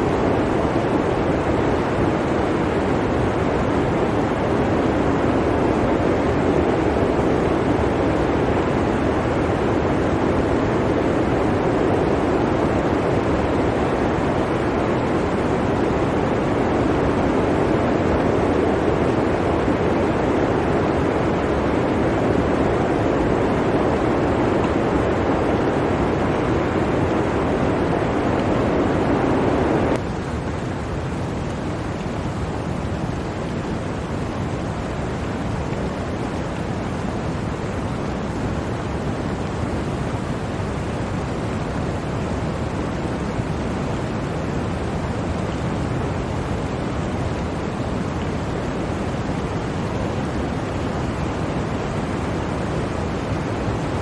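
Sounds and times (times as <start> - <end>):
blizzard wind blowing: 0.0 - 54.0.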